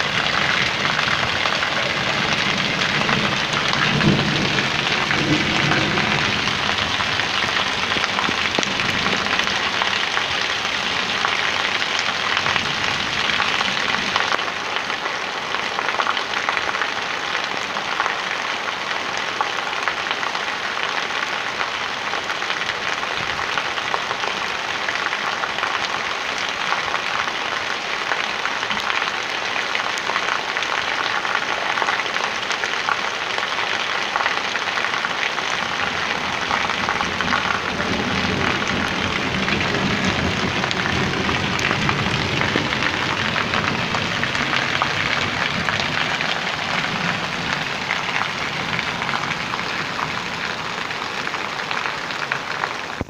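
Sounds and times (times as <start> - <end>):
falling rain: 0.0 - 53.0
rainwater splashing onto stone: 0.0 - 53.0.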